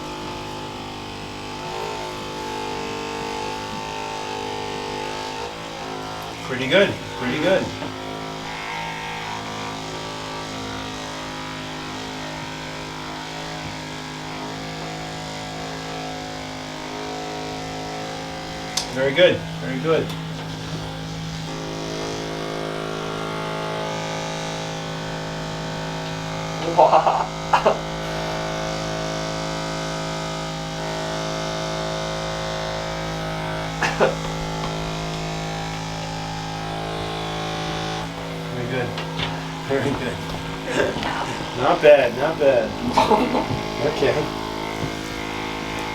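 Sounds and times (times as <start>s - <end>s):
percussion massager motor hum: 0.0s - 45.9s.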